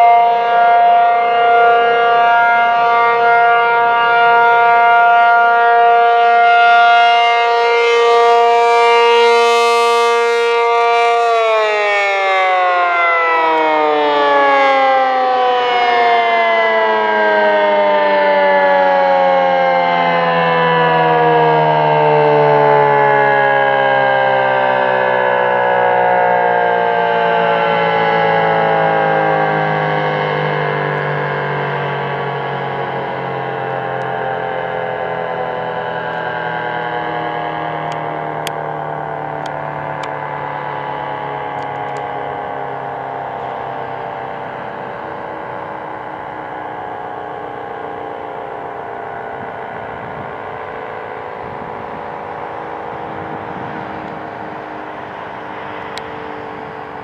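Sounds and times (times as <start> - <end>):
civil defense siren winding down: 0.0 - 57.0.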